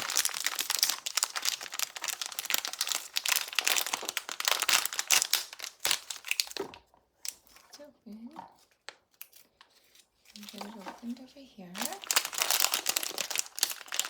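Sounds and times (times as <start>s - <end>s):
packaging crinkling and tearing: 0.0s - 7.8s, 8.6s - 14.0s.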